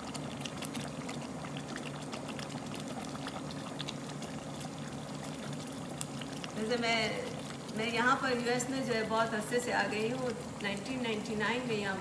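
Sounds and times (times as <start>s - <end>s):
sauce bubbling and popping: 0.0s - 12.0s.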